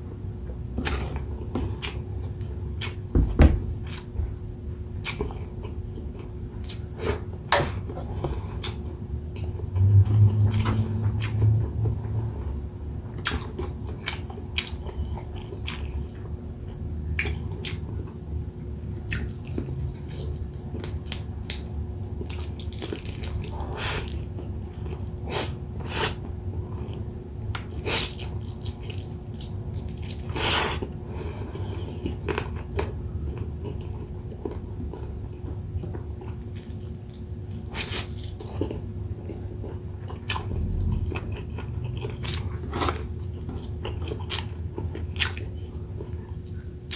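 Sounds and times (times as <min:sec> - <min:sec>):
person chewing food: 0:00.8 - 0:03.1, 0:03.7 - 0:04.1, 0:05.0 - 0:18.2, 0:19.0 - 0:46.9.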